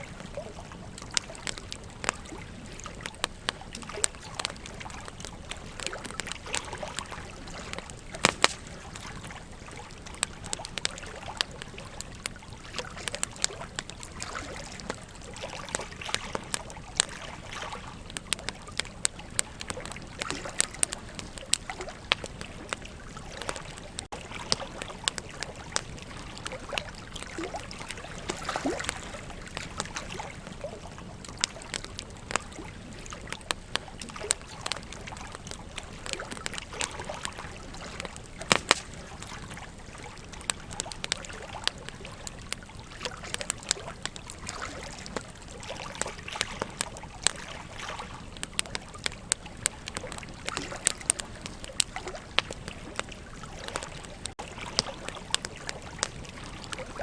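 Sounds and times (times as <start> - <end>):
burning wood crackling: 0.0 - 57.0
flowing river water: 0.0 - 57.0.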